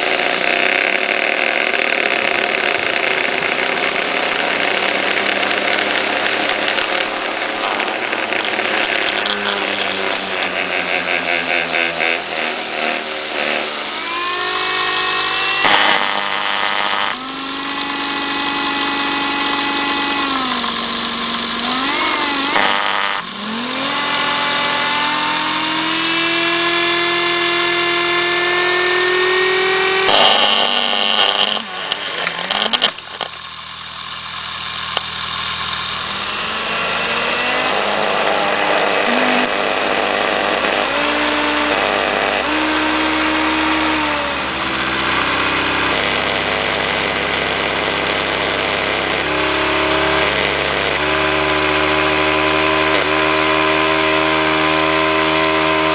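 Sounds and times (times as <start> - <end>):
second small motor whining: 0.0 - 55.9
small motor high whine: 0.0 - 55.9.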